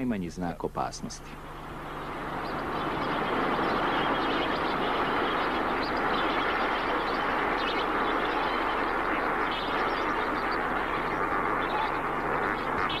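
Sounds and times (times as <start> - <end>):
flock of birds wingbeats: 1.5 - 13.0.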